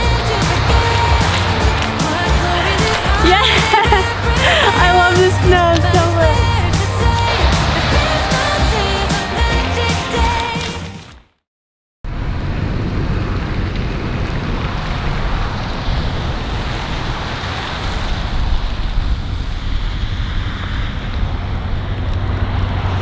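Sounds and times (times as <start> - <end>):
engine low rumble: 0.0 - 9.9, 12.1 - 23.0.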